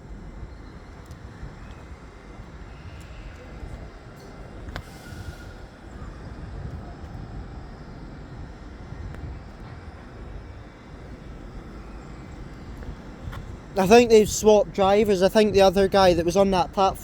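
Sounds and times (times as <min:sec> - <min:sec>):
low rumble of standing trains: 0:00.0 - 0:17.0.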